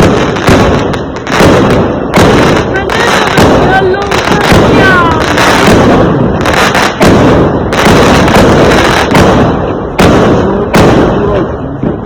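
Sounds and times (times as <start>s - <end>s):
fireworks crackling: 0.0s - 12.0s
sharp firework bangs: 0.0s - 12.0s.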